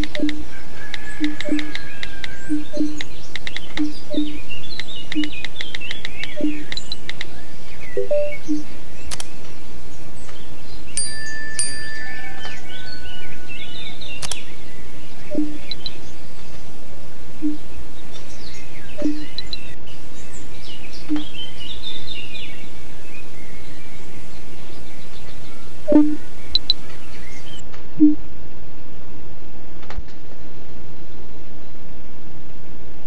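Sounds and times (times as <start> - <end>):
birds chirping and trilling: 0.0 - 27.6
steady background noise: 0.0 - 33.0.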